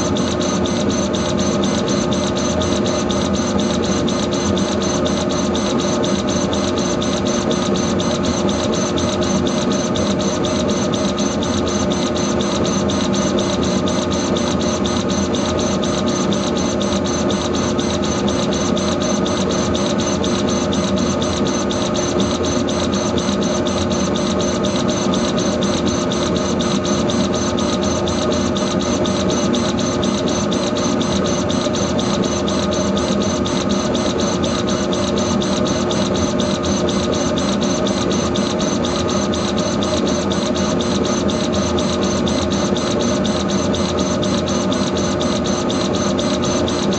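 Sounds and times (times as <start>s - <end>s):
laser engraver mechanical hum: 0.0s - 46.9s.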